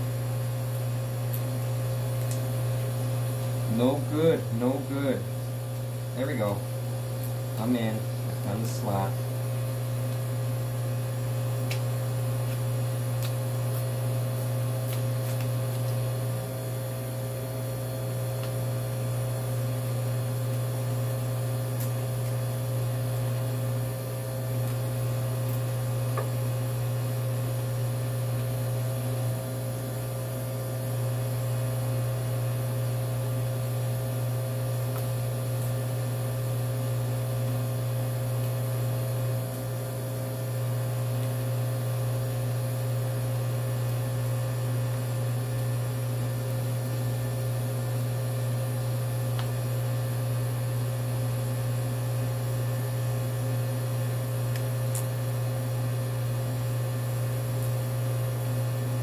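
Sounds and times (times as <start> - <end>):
freezer compressor humming: 0.0 - 59.0.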